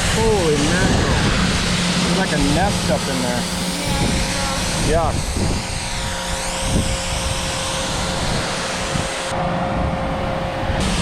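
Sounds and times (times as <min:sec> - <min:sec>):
engine-driven machine whine: 0:00.0 - 0:11.0.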